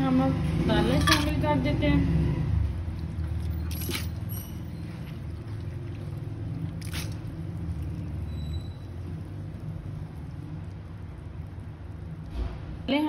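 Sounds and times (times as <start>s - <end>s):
steady low hum: 0.8s - 12.9s.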